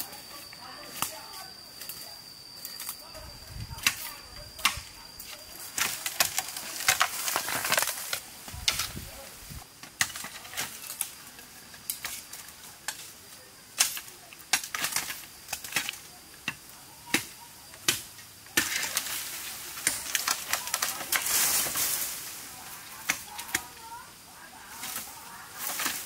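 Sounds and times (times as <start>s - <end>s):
bamboo leaves and stalks rustling: 0.0s - 26.0s.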